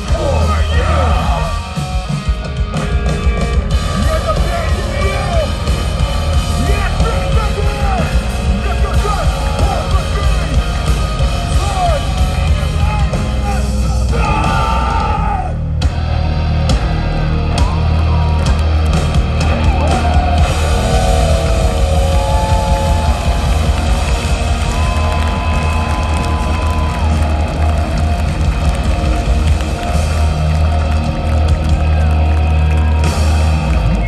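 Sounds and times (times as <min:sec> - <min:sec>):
bass: 0:00.0 - 0:34.0
distorted electric guitars: 0:00.0 - 0:34.0
drums: 0:00.0 - 0:34.0
yelled vocals: 0:00.0 - 0:34.0.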